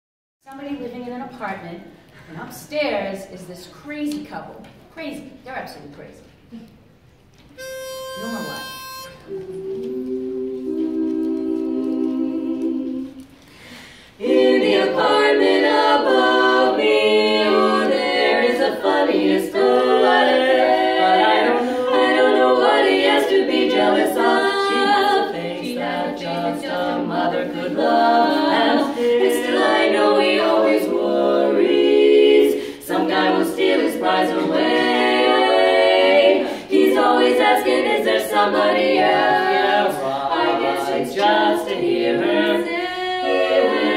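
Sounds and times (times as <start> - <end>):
women singing a cappella harmony: 7.6 - 43.9.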